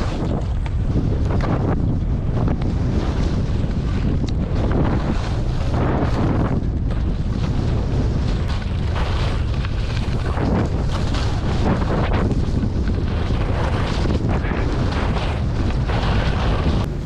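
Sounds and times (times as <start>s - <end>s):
skis scraping snow: 0.0s - 17.0s
wind buffeting microphone: 0.0s - 17.0s.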